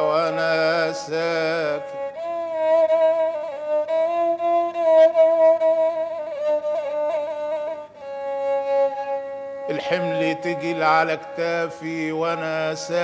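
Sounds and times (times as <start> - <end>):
bowled fiddle melody: 0.0 - 13.0.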